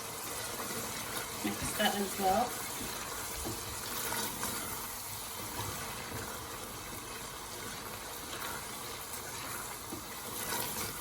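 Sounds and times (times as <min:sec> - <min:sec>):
masala sizzling in a pan: 0:00.0 - 0:11.0.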